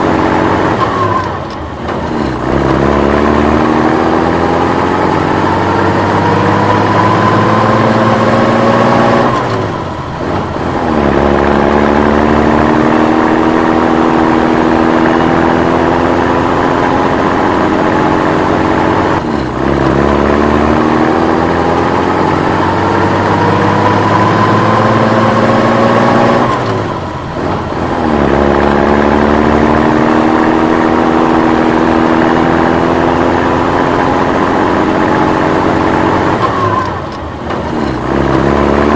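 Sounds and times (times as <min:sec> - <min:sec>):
truck engine accelerating: 0:00.0 - 0:38.9.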